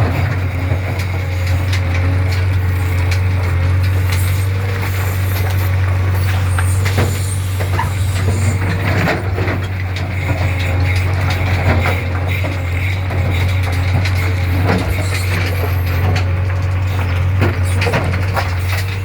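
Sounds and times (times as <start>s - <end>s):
diesel engine running: 0.0s - 19.0s
knocks and clanks: 0.0s - 19.0s.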